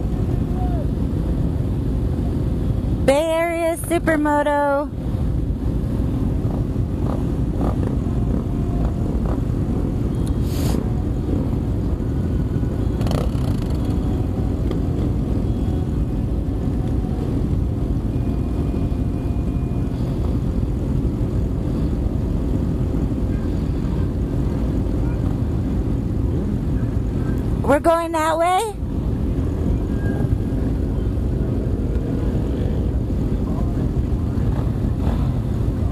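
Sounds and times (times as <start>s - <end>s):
motorcycle engine rumble: 0.0s - 27.8s, 28.8s - 35.9s
wind noise: 0.0s - 35.9s.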